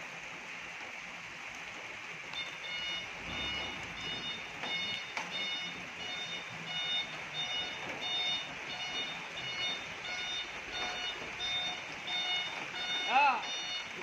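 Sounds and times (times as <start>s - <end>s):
hiss of rain: 0.0s - 14.0s
truck reversing alarm beeping: 2.3s - 14.0s.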